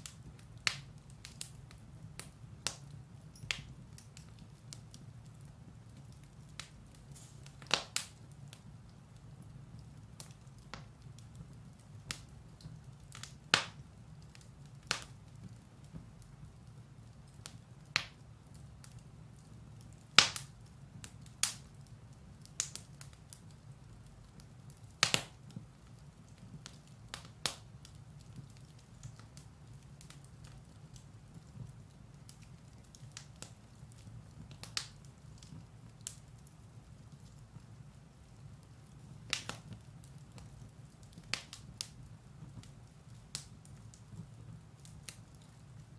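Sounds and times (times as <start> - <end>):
firewood crackling: 0.0 - 45.9.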